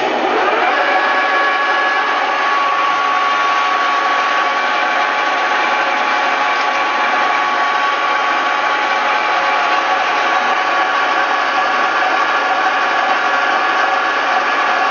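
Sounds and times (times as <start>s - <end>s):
metal lathe machining with whine: 0.0s - 14.9s.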